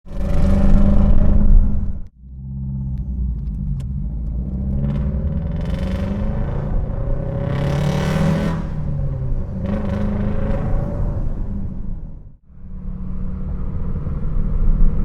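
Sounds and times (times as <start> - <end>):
car engine rough rumble: 0.0 - 15.0.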